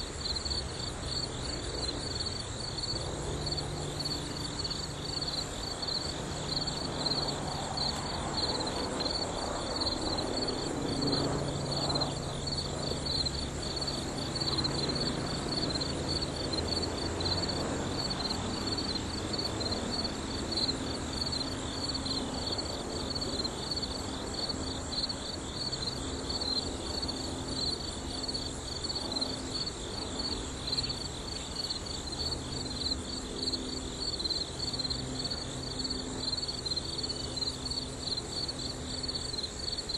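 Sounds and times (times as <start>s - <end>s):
high-pitched insect chirping: 0.1s - 39.9s.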